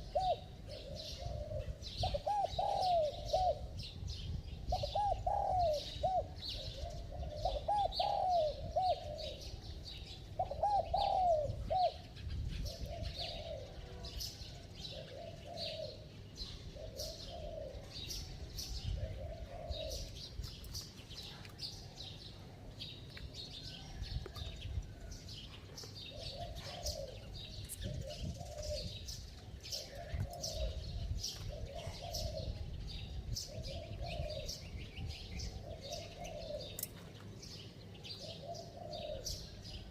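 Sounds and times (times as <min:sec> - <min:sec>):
dove cooing: 0:00.0 - 0:20.3, 0:26.0 - 0:36.9, 0:38.0 - 0:39.9
small birds chirping: 0:00.0 - 0:39.9.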